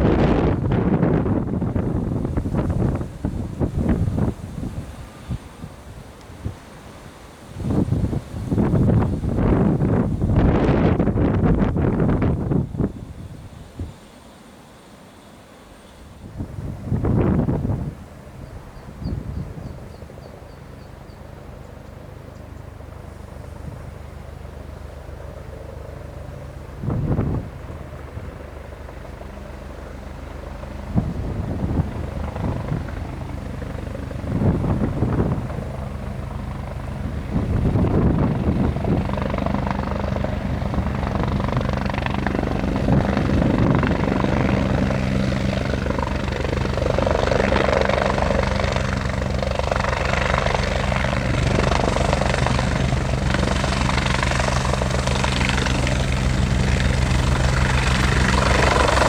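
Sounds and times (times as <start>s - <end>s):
wind buffeting microphone: 0.0s - 14.0s, 16.1s - 20.8s, 25.6s - 59.0s
helicopter rotor and engine: 0.0s - 59.0s.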